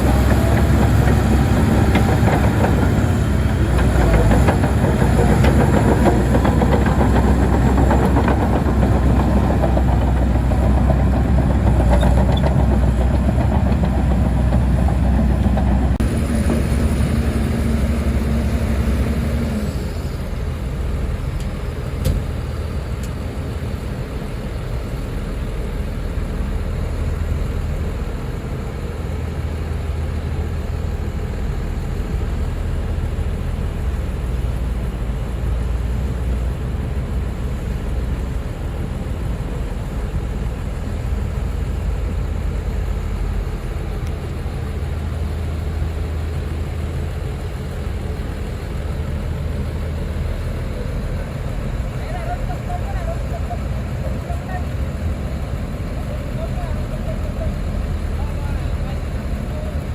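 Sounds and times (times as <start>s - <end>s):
heavy diesel engine humming: 0.0s - 59.9s
steady whine: 0.0s - 59.9s.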